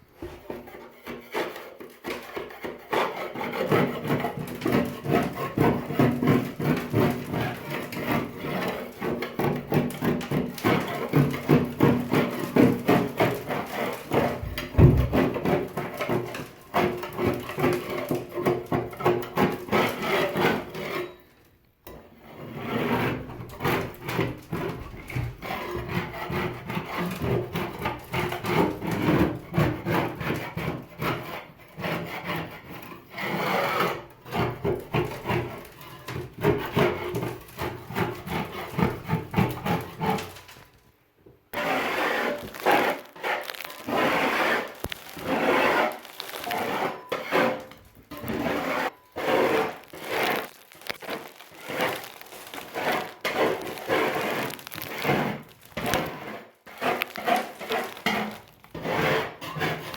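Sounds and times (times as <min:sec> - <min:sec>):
hand scraper rasping paint: 0:00.1 - 0:21.4, 0:22.2 - 0:40.7, 0:41.5 - 0:59.9.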